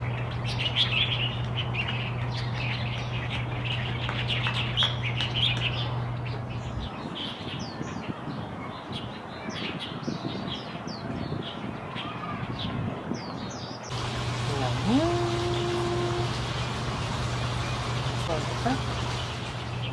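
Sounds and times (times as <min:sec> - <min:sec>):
birds chirping and calling: 0:00.0 - 0:19.9.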